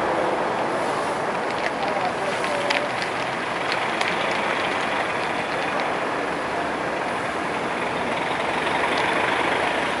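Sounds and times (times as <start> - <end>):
truck passing by: 0.0 - 10.0.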